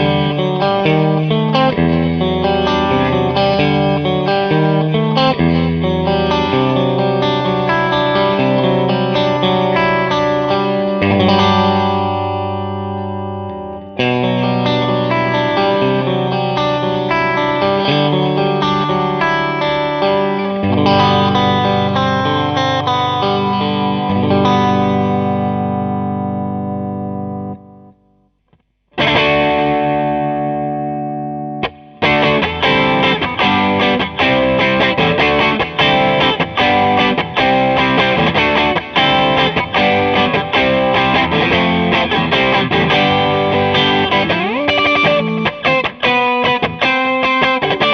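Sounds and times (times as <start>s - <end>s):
overdriven electric guitar chords: 0.0s - 47.9s.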